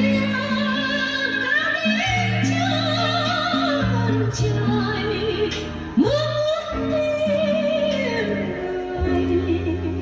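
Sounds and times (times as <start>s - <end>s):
woman singing with band: 0.0s - 10.0s.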